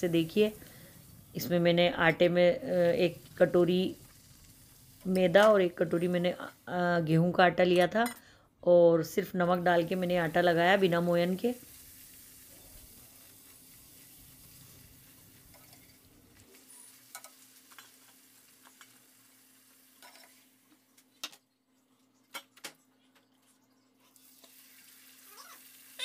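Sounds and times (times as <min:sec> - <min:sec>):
hot oil sizzling: 0:00.0 - 0:07.7, 0:09.2 - 0:20.8, 0:24.1 - 0:26.0.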